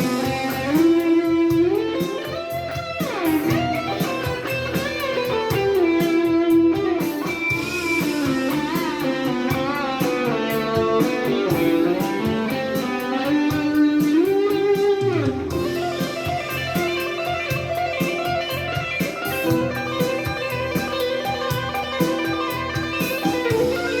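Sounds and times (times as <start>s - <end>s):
backing track with steady beat: 0.0s - 24.0s
electric guitar lead with bends: 0.0s - 24.0s.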